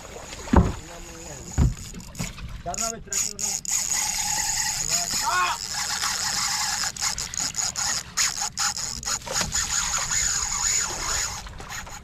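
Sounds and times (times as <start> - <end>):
fishing reel drag screaming: 0.8 - 12.0.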